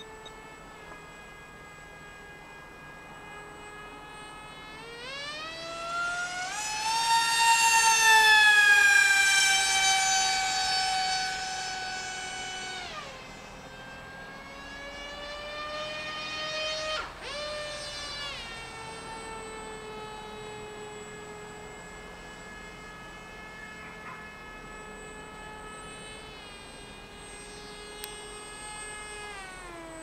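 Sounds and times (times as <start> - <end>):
electric motor and propeller whining: 0.0 - 30.0.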